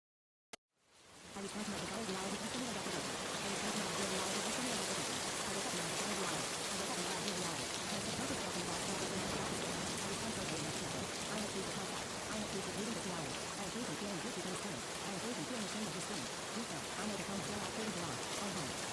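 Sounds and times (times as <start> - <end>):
steady rain falling: 0.8 - 18.9.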